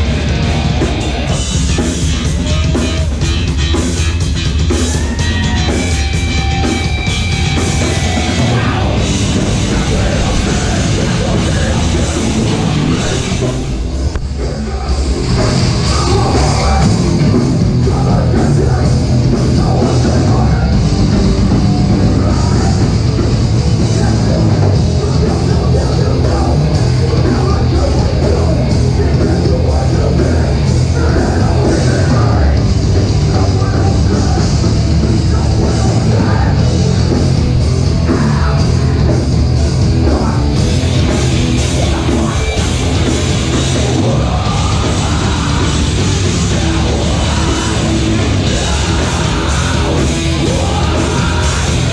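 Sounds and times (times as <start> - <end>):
distorted guitars: 0.0 - 51.9
drums: 0.0 - 51.9
metalcore band playing live: 0.0 - 51.9.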